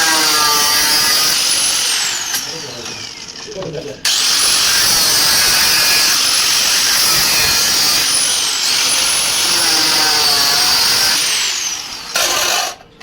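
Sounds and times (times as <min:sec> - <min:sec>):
power tool whining: 0:00.0 - 0:12.9.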